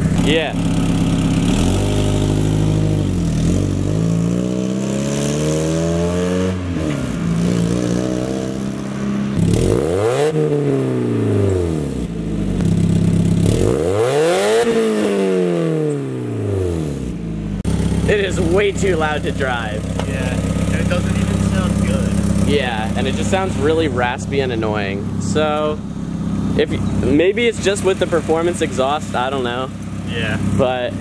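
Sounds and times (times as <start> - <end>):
raspy car engine revving: 0.0 - 31.0.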